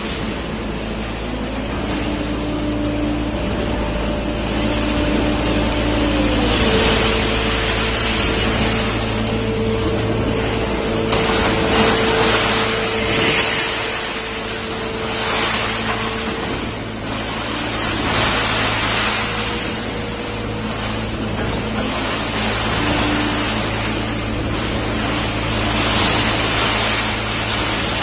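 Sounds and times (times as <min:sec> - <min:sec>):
baler machine hum: 0:00.0 - 0:28.0
hydraulic rushing noise: 0:00.0 - 0:28.0.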